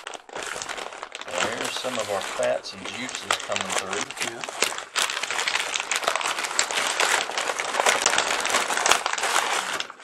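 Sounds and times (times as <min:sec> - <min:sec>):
greasy paper crinkling: 0:00.0 - 0:10.0.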